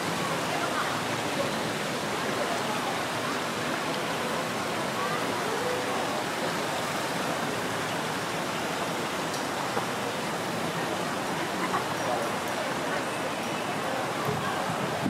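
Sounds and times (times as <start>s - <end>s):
faint distant voices: 0.0s - 8.9s, 9.5s - 15.0s.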